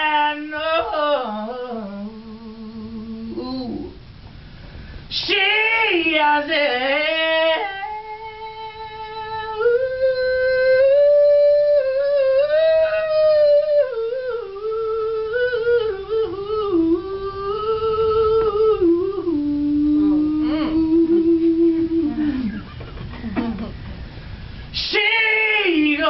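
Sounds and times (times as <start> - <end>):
man singing without words: 0.0 - 4.0, 5.1 - 22.7, 24.8 - 26.0.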